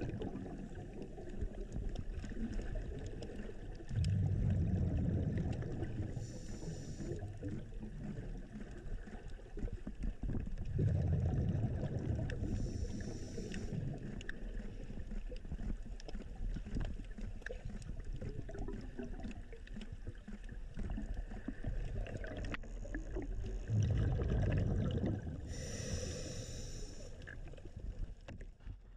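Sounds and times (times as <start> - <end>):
low water surges: 0.0 - 15.3, 16.0 - 28.2
underwater water rush: 0.0 - 28.4.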